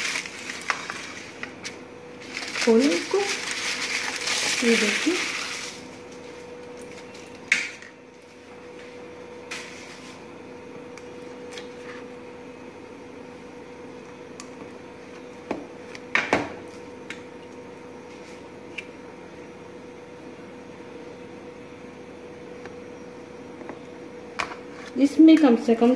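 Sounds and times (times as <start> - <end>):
steady background hum: 0.0 - 25.9.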